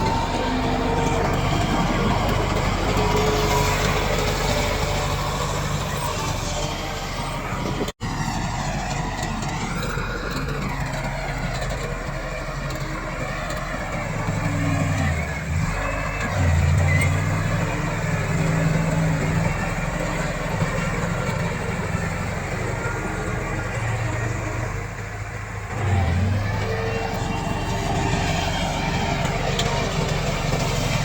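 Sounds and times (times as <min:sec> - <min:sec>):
bulldozer diesel engine working: 0:00.0 - 0:31.0.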